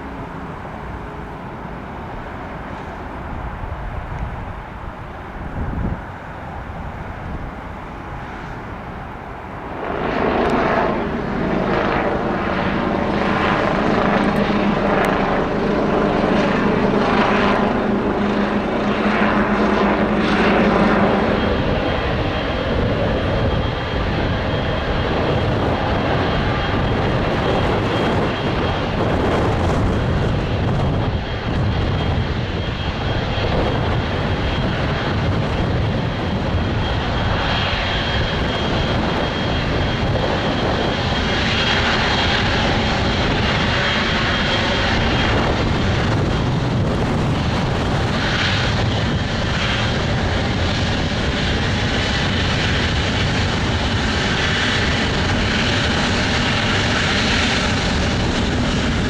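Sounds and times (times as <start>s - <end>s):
jet engines at take-off power: 0.0s - 59.0s.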